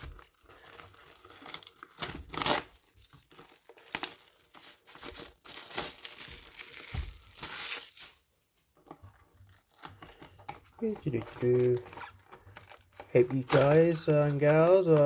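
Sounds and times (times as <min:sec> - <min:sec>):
plastic wrapping crinkling and tearing: 0:00.0 - 0:15.0.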